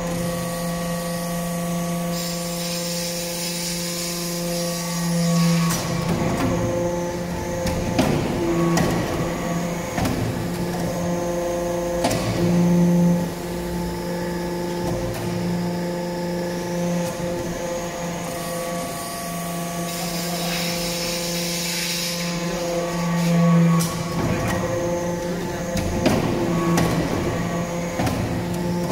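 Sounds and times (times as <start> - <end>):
hydraulic power unit hum: 0.0 - 28.9.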